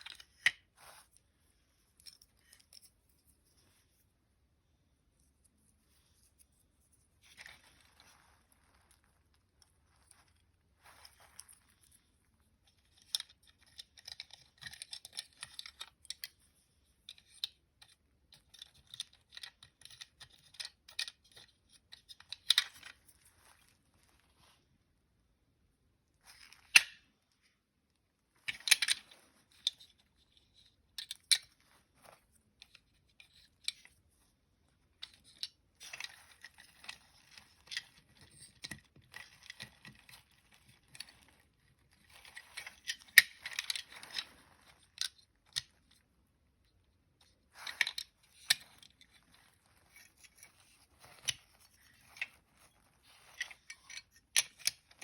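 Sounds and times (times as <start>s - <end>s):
light rustling and scraping: 0.0s - 4.3s, 5.1s - 15.5s, 21.3s - 25.0s, 28.2s - 46.1s, 47.2s - 55.0s.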